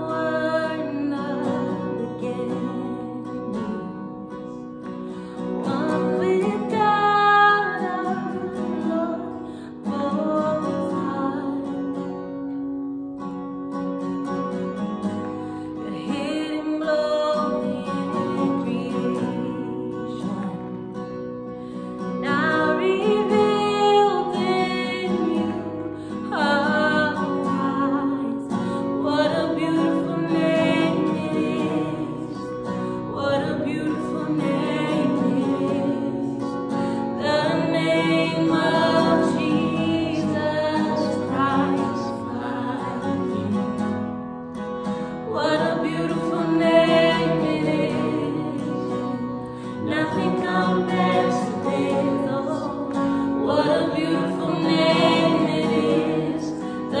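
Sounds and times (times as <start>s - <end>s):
people singing: 0.0s - 4.0s, 5.6s - 11.4s, 15.9s - 20.6s, 22.2s - 43.9s, 45.3s - 57.0s
acoustic guitar strummed: 0.0s - 57.0s.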